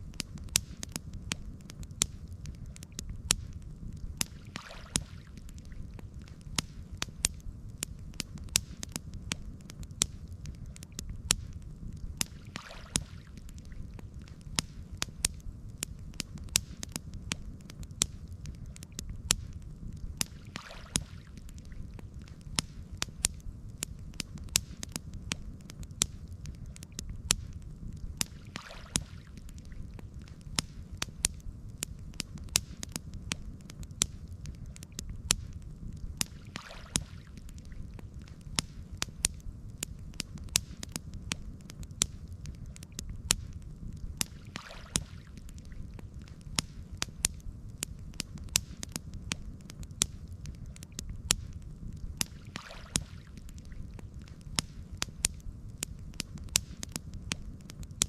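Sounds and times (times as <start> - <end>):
campfire crackling: 0.0 - 58.0
low fire rumble: 0.0 - 58.0.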